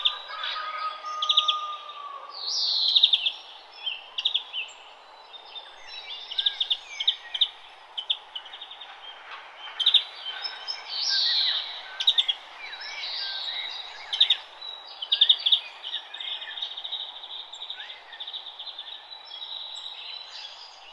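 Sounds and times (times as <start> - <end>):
songbirds chirping and trilling: 0.0 - 20.9.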